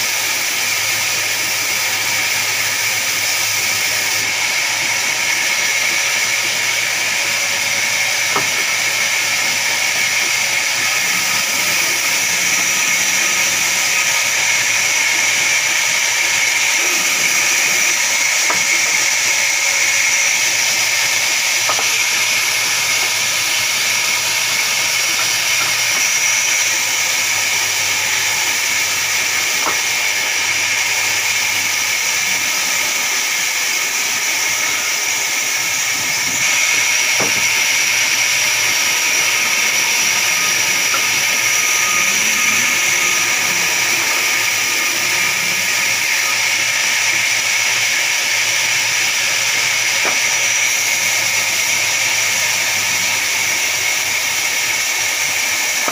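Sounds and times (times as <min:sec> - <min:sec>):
band saw cutting wood: 0:00.0 - 0:55.9.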